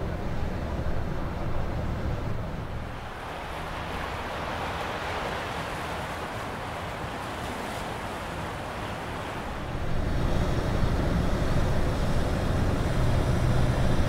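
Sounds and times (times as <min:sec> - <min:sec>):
rushing water: 0:00.0 - 0:14.0
wind: 0:00.0 - 0:14.0.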